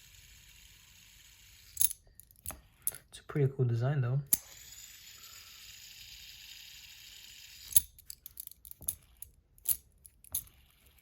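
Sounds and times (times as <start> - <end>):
fidget spinner whirring: 0.0 - 3.0, 4.4 - 11.0.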